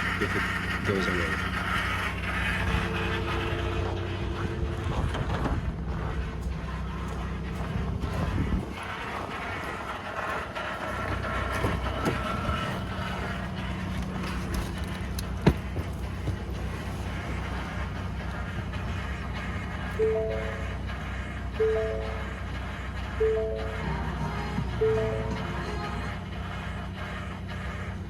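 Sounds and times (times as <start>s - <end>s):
low grinding engine noise: 0.0s - 28.0s.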